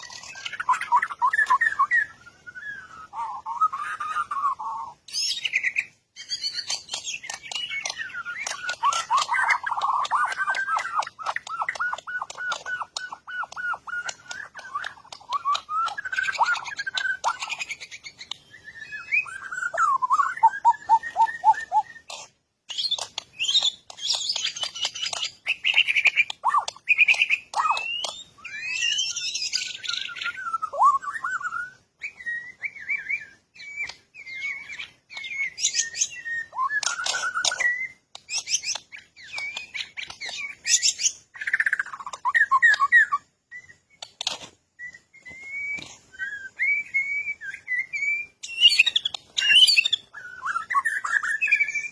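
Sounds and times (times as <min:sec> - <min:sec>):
songbirds chirping and singing: 0:00.0 - 0:51.9.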